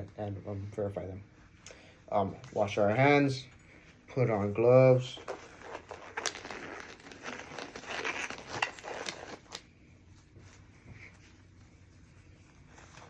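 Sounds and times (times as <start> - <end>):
gloves crinkling and rustling: 0.0 - 13.0.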